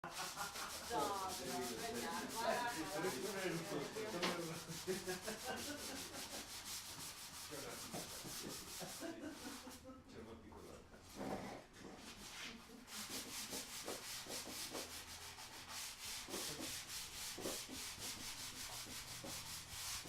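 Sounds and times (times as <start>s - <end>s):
sandpaper rubbing by hand: 0.0s - 9.8s, 12.0s - 20.0s.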